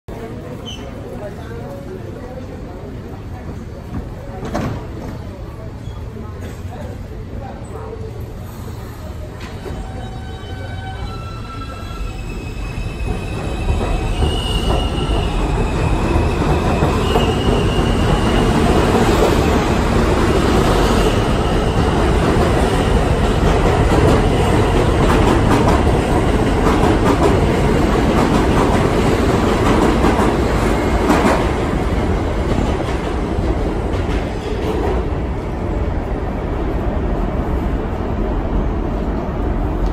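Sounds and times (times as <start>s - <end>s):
train cars rumbling on rails: 2.6s - 39.9s.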